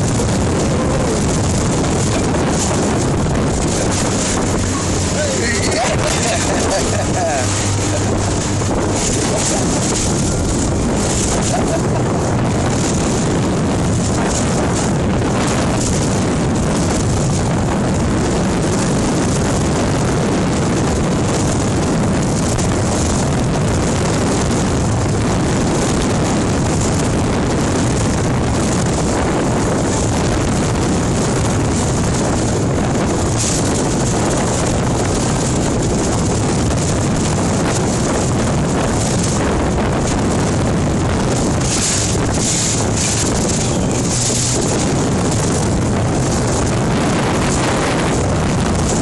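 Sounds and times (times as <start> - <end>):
outboard engine running: 0.0 - 49.0
water rushing past hull: 0.0 - 49.0
wind buffeting microphone: 0.0 - 49.0.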